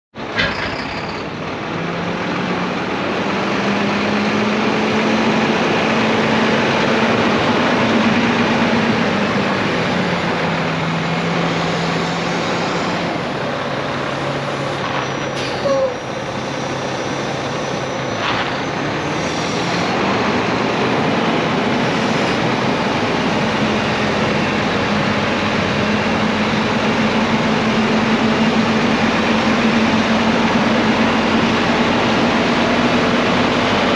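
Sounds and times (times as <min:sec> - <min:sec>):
truck diesel engine running: 0:00.2 - 0:33.9.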